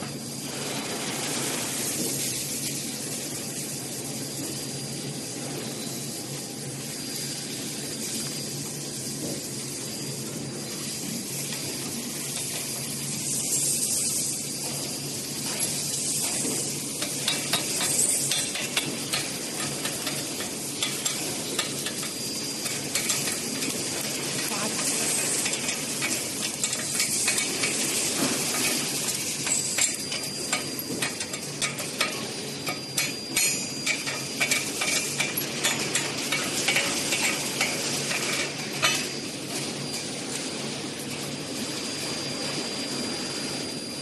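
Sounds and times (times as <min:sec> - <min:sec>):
welding arc crackling: 0:00.0 - 0:42.4.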